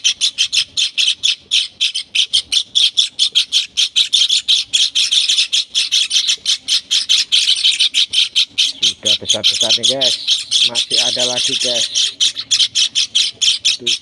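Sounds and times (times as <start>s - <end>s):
chicks cheeping: 0.0s - 14.0s.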